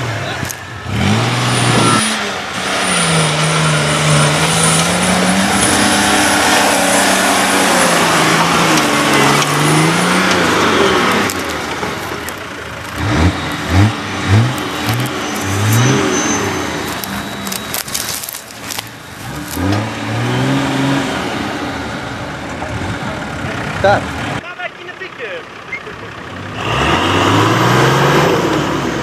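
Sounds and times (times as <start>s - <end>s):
engine throttle blips: 0.0s - 29.0s
off-road engine under load: 0.0s - 29.0s
heavy rushing noise: 1.1s - 24.4s.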